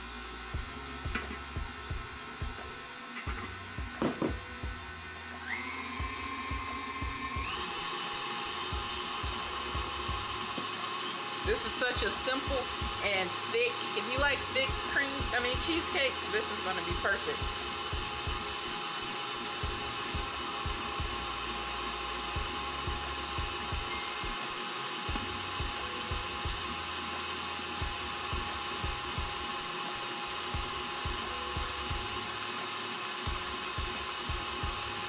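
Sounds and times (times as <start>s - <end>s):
stand mixer motor whining: 0.0s - 35.0s.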